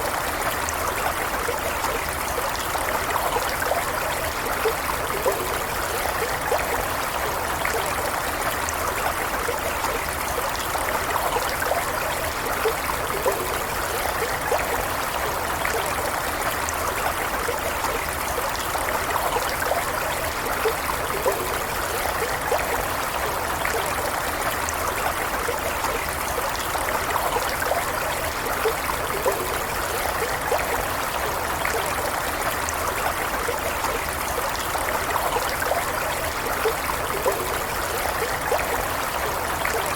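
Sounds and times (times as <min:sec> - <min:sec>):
stream flowing: 0:00.0 - 0:39.9
water trickling and gurgling: 0:00.0 - 0:39.9.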